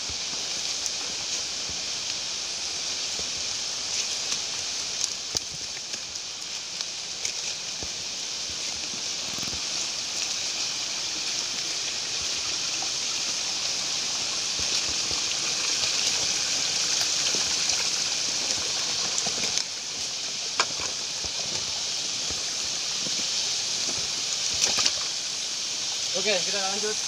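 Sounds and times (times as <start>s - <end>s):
footsteps on a trail: 0.0s - 25.1s
high hiss of forest ambience: 0.0s - 27.0s
rustling undergrowth: 0.0s - 27.0s.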